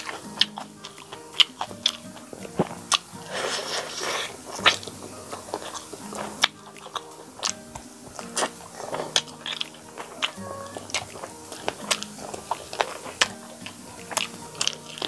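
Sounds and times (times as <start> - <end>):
person chewing: 0.0 - 15.0
soft background music: 0.0 - 15.0
wet mouth smacks: 0.0 - 15.0.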